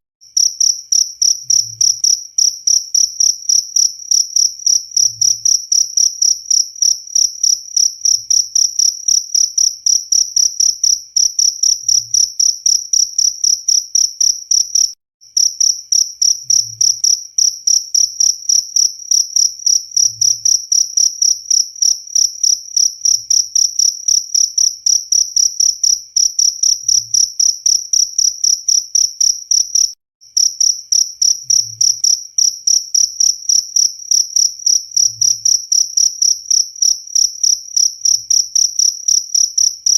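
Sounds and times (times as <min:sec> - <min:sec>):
cricket chirping: 0:00.3 - 0:39.9.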